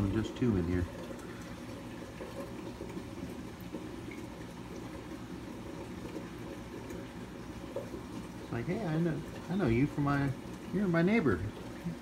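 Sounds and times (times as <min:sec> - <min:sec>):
aquarium pumps humming: 0:00.0 - 0:12.0
circulating water: 0:00.0 - 0:12.0.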